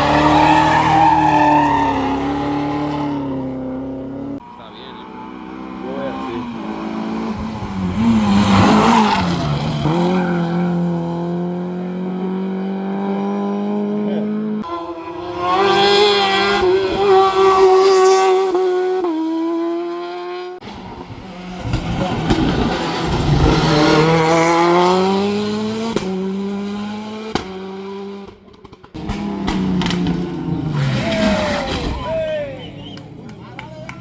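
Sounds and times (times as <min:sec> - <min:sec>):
racing car passing by: 0:00.0 - 0:28.3, 0:28.9 - 0:34.0
racing car engines revving: 0:00.0 - 0:34.0.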